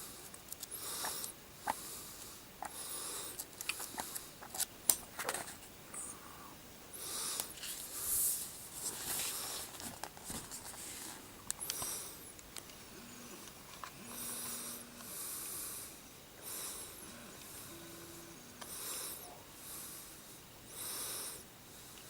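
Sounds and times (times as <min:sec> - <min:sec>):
heavy hissing breathing: 0:00.0 - 0:04.4, 0:05.9 - 0:09.8, 0:10.8 - 0:22.0.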